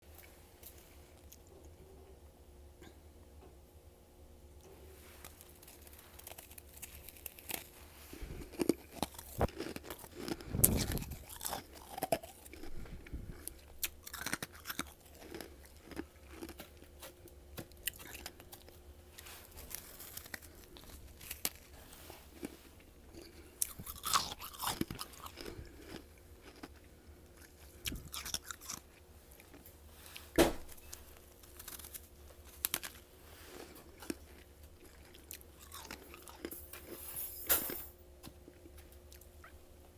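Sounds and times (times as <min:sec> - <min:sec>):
person chewing crunchy frost: 0:04.8 - 0:37.0.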